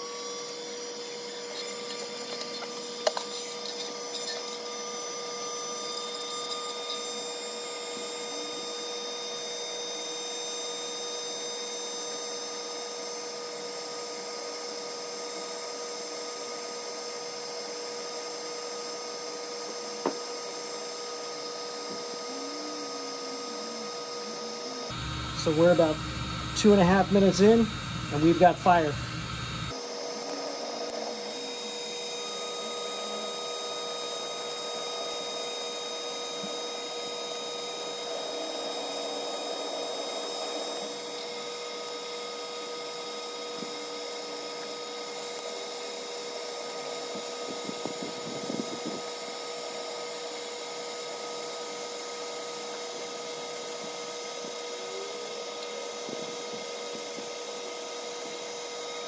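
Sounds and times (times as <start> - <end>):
hot-air lighter fan whine: 0.0 - 59.0.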